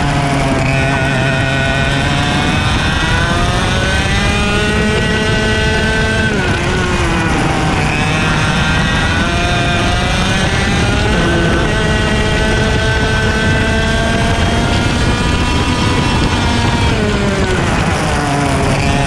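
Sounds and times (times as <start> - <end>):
kart engine racing: 0.0 - 19.0.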